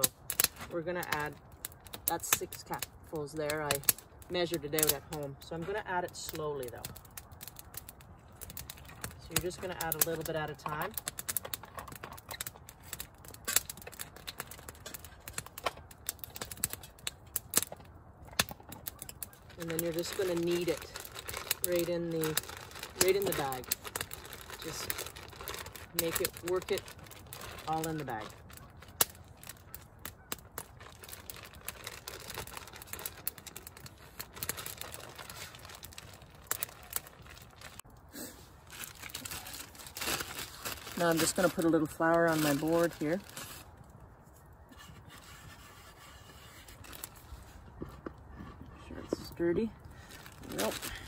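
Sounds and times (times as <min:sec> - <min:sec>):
campfire crackling and popping: 0:00.0 - 0:51.0
plastic bag crinkling: 0:03.5 - 0:37.9, 0:38.6 - 0:43.9, 0:45.3 - 0:47.7, 0:48.9 - 0:51.0.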